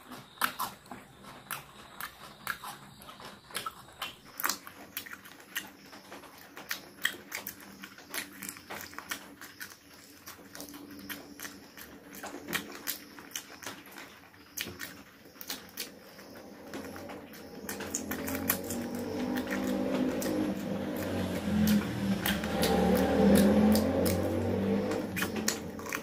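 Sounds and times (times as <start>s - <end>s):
chewing and lip smacking: 0.4s - 26.0s.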